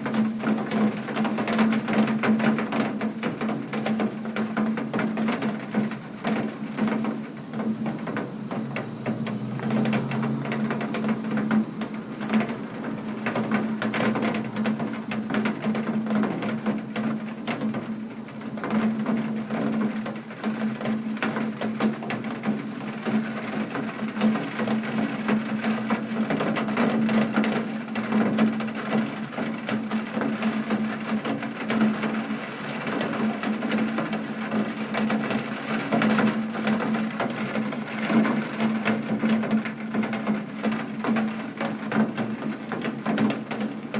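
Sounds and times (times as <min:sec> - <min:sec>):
raindrops tapping on hard surface: 0:00.0 - 0:43.9.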